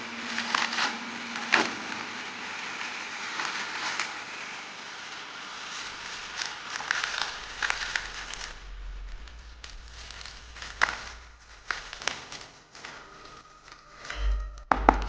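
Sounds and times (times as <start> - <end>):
wrapping crinkling: 0.2 - 14.2.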